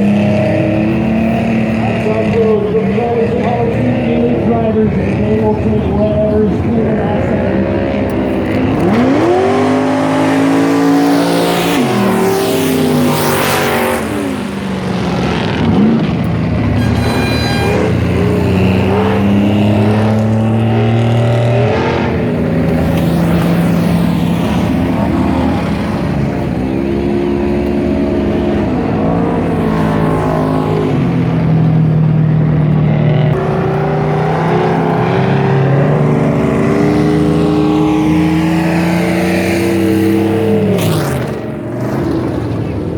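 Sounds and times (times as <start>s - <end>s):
off-road vehicle engines revving: 0.0s - 42.9s.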